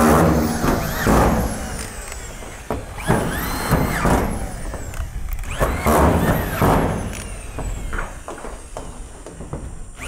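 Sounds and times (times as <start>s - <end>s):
screw gun motors whining: 0.0s - 10.0s.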